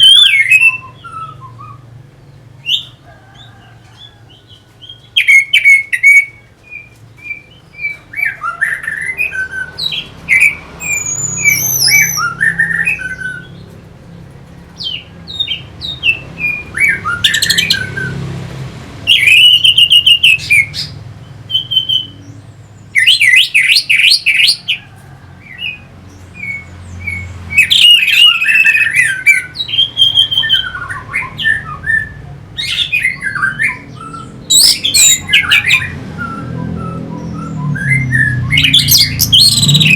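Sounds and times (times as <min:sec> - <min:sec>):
thrush singing whistled phrases: 0:00.0 - 0:03.0, 0:04.9 - 0:13.6, 0:14.9 - 0:18.2, 0:19.1 - 0:22.2, 0:22.9 - 0:24.8, 0:26.4 - 0:39.9.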